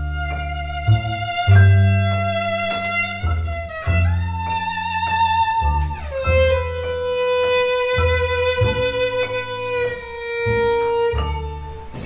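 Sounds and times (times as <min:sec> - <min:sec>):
low rhythmic accompaniment: 0:00.0 - 0:12.0
violin long bowed notes: 0:00.0 - 0:12.0.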